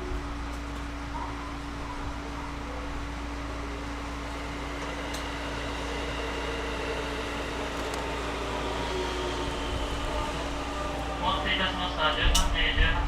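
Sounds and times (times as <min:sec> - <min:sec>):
train equipment and fans humming: 0:00.0 - 0:13.0.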